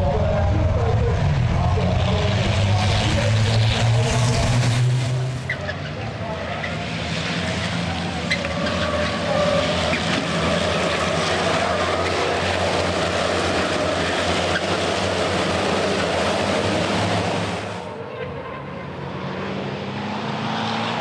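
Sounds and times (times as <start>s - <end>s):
racing truck engines: 0.0s - 21.0s.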